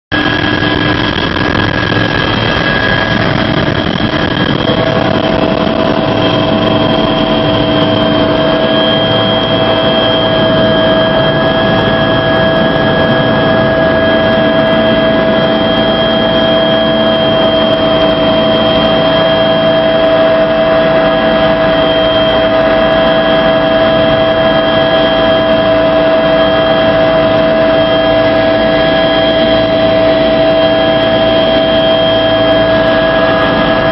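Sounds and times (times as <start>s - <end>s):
helicopter turbine and rotor noise: 0.1s - 33.9s
high whining tones: 0.1s - 33.9s.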